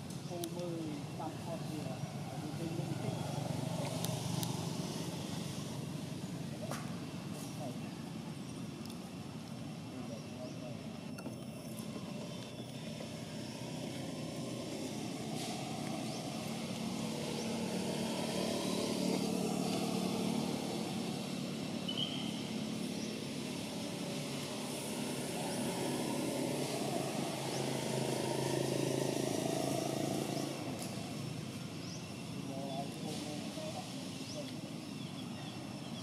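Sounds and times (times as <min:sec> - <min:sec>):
low motor engine drone: 0:00.0 - 0:35.7.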